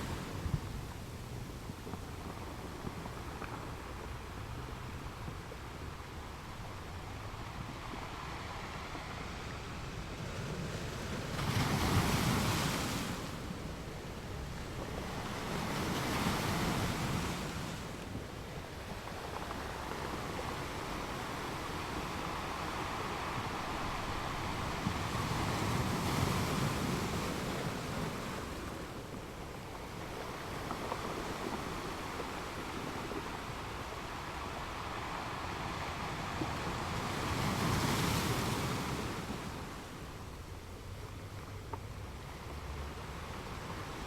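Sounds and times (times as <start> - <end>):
ocean waves breaking on beach: 0.0 - 44.0.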